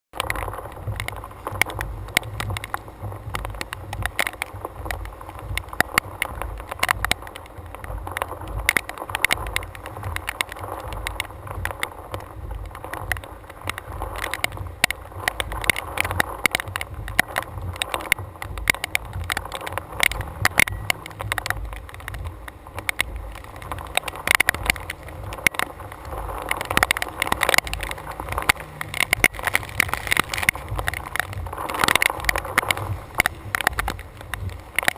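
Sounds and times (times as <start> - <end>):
wind buffeting camera: 0.1 - 34.9
sharp ticks against camera: 0.2 - 34.9.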